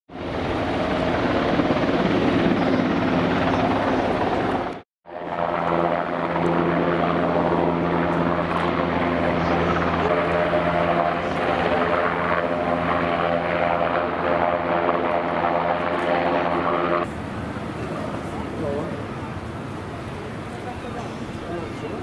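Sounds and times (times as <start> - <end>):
helicopter rotor and engine drone: 0.1 - 22.0.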